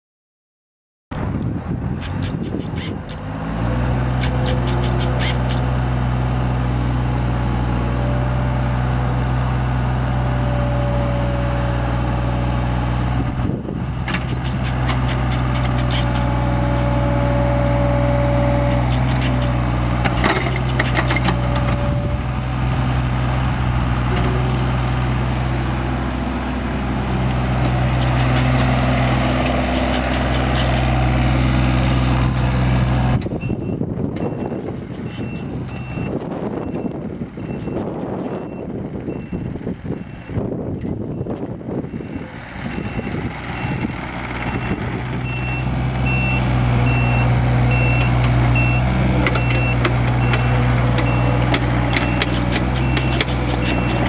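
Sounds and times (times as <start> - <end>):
diesel engine running: 1.2 - 54.0.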